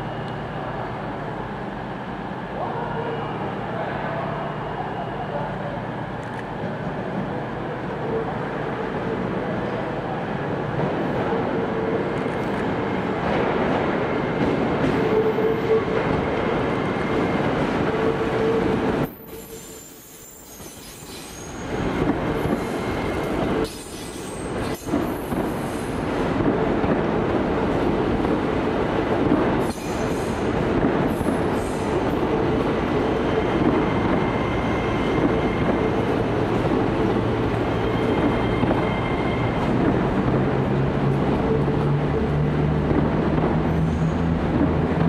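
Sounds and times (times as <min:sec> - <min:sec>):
steady train tone: 0:00.0 - 0:45.0
train running slowly past: 0:00.0 - 0:45.0.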